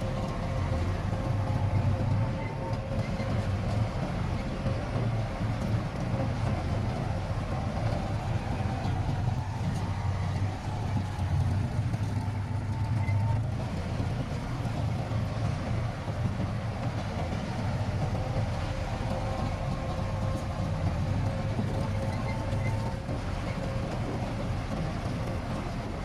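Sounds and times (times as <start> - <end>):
diesel earthmoving machine rumbling: 0.0 - 26.0.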